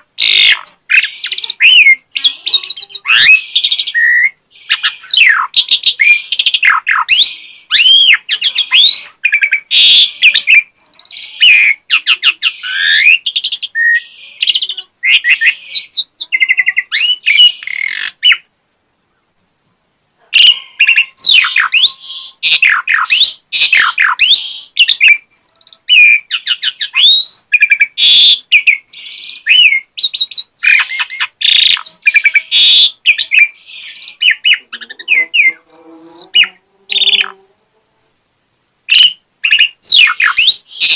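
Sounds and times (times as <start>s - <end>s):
bird singing varied song: 0.0s - 19.3s, 20.3s - 37.5s, 38.9s - 40.9s.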